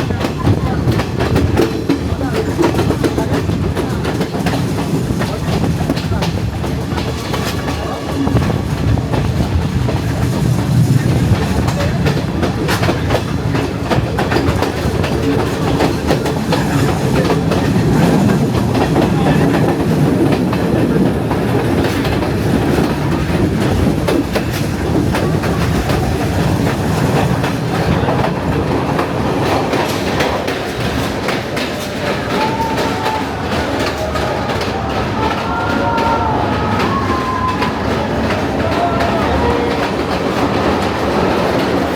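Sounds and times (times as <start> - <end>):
train rumbling: 0.0 - 41.9
wheels clacking over rail joints: 0.0 - 41.9.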